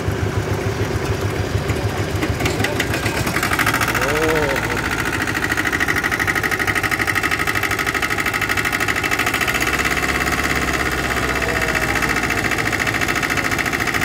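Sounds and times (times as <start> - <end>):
small tractor engine idling: 0.0 - 14.0.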